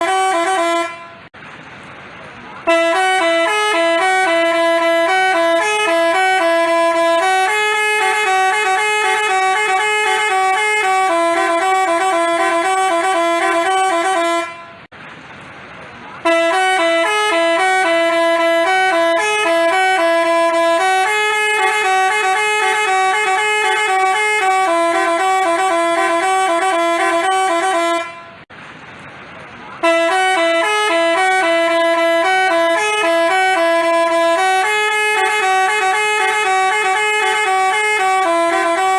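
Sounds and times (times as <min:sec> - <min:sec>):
bus melody horn playing a tune: 0:00.0 - 0:01.3, 0:02.6 - 0:14.9, 0:16.2 - 0:28.5, 0:29.8 - 0:38.9.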